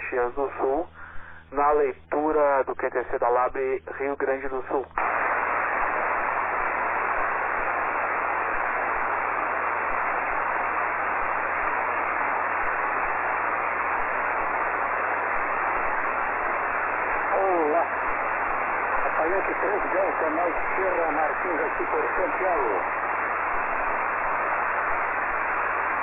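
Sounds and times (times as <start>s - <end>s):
radio receiver static hiss: 0.0s - 26.0s.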